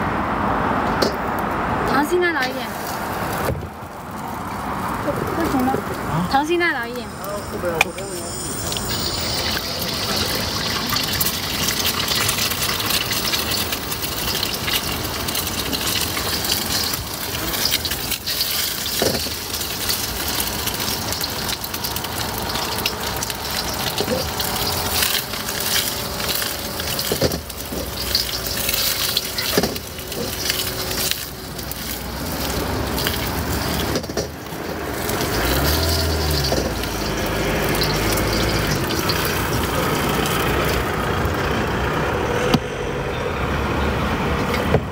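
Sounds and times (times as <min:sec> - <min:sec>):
food sizzling on a hot plate: 0:01.9 - 0:41.5.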